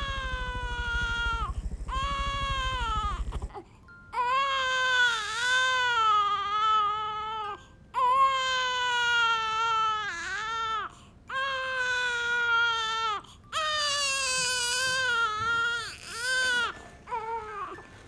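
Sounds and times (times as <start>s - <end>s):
newborn baby crying: 0.0s - 17.8s.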